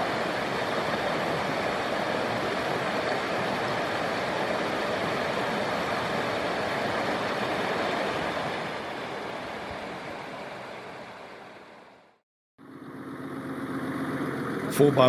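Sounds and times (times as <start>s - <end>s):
steady rushing noise: 0.0s - 12.2s.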